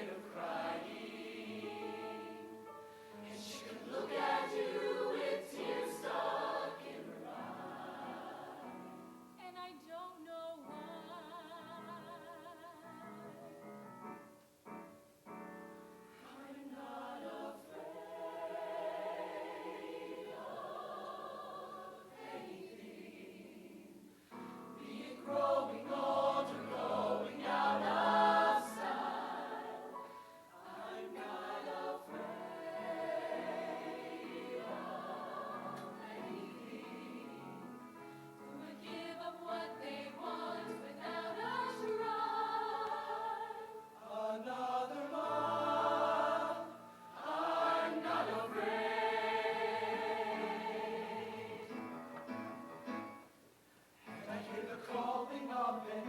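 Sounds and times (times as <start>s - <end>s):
choir singing: 0.0s - 9.4s, 16.1s - 52.2s, 54.0s - 56.0s.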